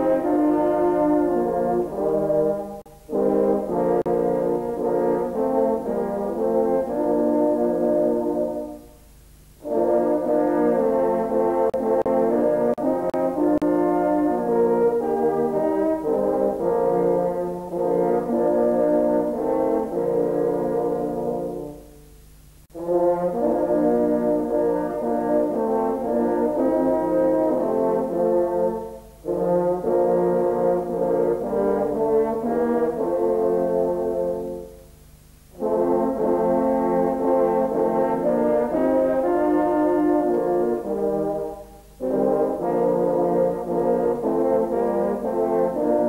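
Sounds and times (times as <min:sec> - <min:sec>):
brass ensemble playing chords: 0:00.0 - 0:46.0.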